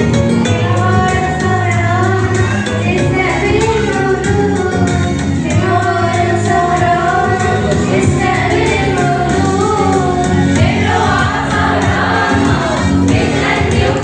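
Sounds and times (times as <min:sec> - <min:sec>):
instrumental backing with beat: 0:00.0 - 0:14.0.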